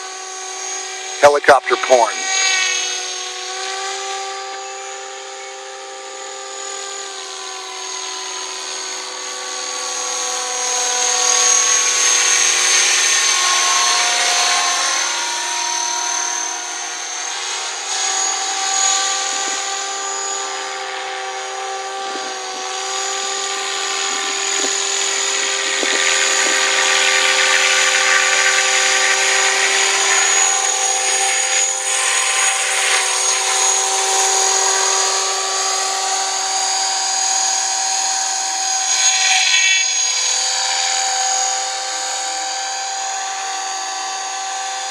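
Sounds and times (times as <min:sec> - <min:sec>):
helicopter motor whine: 0:00.0 - 0:44.9
helicopter rotor: 0:00.0 - 0:44.9.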